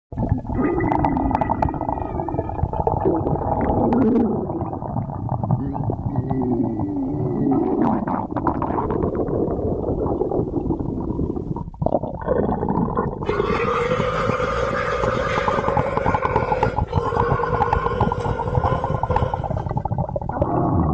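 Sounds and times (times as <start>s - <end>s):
stomach growling: 0.1s - 20.9s.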